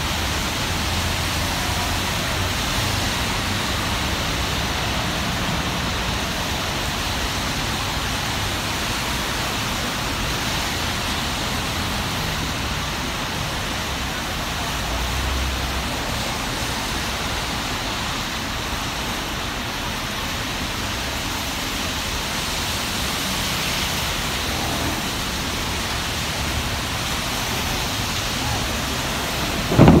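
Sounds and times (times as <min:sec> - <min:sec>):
car tyres on wet road: 0:00.0 - 0:30.0
rain hissing: 0:00.0 - 0:30.0.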